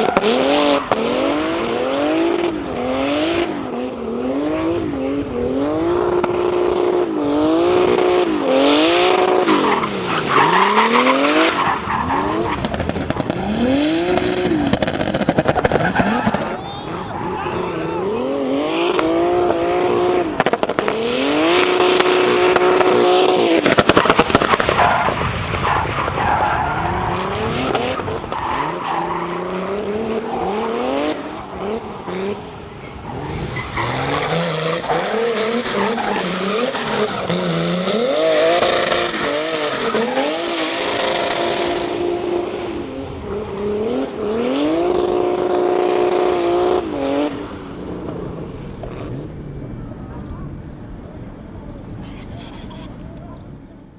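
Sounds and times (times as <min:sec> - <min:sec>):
tyres squealing and skidding: 0:00.0 - 0:05.4, 0:06.0 - 0:47.8
car engine revving hard: 0:00.0 - 0:25.2, 0:26.2 - 0:48.1.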